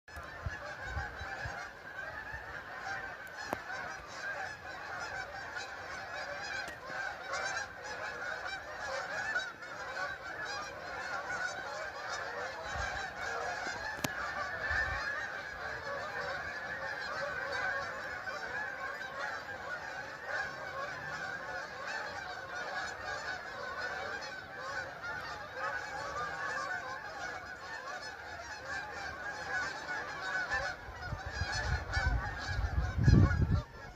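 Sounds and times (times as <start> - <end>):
geese honking: 0.1 - 33.9.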